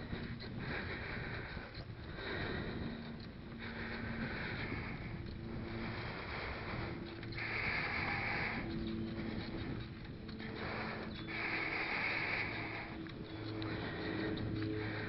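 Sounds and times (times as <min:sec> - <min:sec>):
bike drivetrain noise: 0:00.0 - 0:15.0
bike tyres rolling: 0:00.0 - 0:15.0
wind on microphone: 0:00.0 - 0:15.0.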